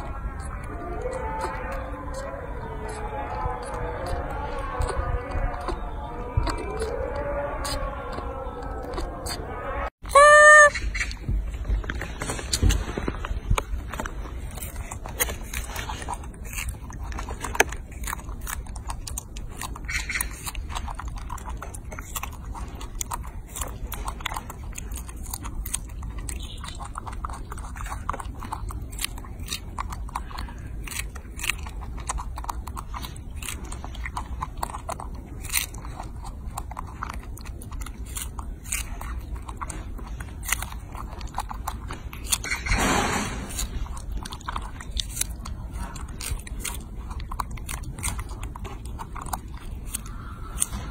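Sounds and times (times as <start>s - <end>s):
monkey chewing: 0.0s - 50.9s.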